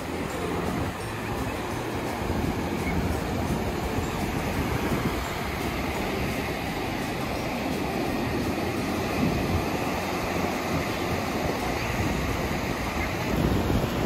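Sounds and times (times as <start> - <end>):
sea surf breaking on beach: 0.0 - 14.0
wind rumbling on microphone: 0.0 - 14.0.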